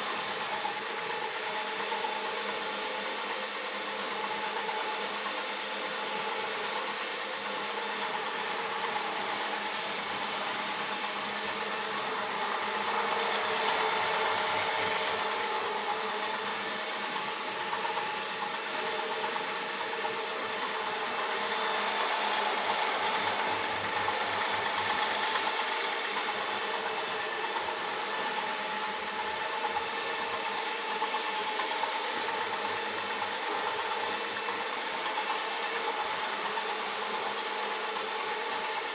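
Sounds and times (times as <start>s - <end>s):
floor polisher brush scrubbing carpet: 0.0s - 38.9s.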